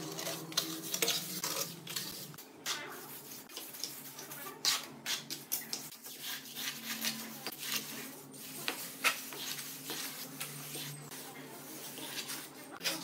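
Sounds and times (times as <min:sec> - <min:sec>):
trowel scraping wet mortar: 0:00.0 - 0:13.0.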